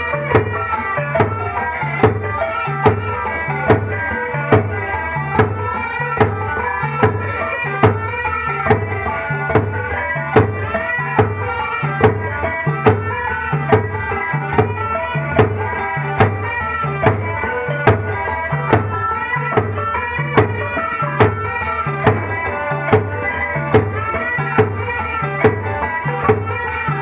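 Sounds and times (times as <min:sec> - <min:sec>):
traditional dance music melody: 0:00.0 - 0:27.0.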